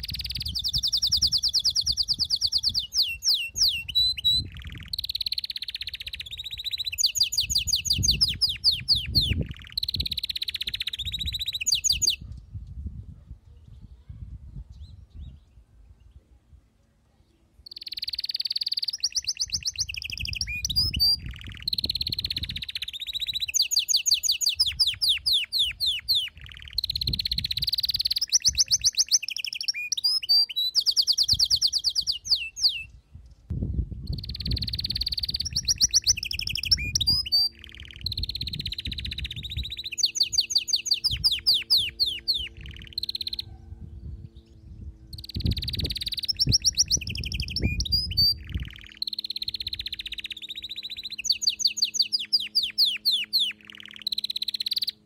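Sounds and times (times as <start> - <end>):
canary singing trills: 0.0 - 12.6, 17.6 - 33.2, 34.0 - 55.0.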